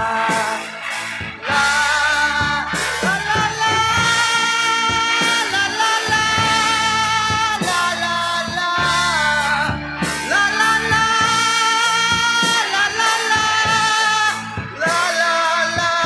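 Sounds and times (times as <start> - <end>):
held melody notes over bass line: 0.0 - 16.0
song playing from vinyl record: 0.0 - 16.0.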